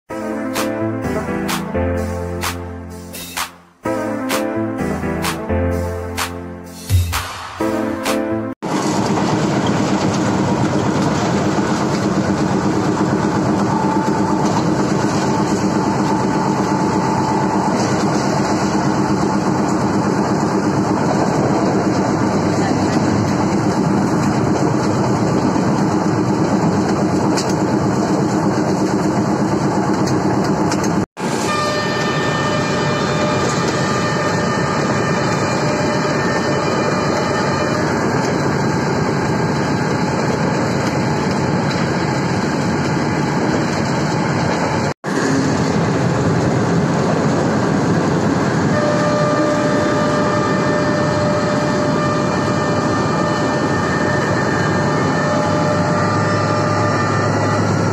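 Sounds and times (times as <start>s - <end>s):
locomotive running at speed: 8.6s - 57.9s.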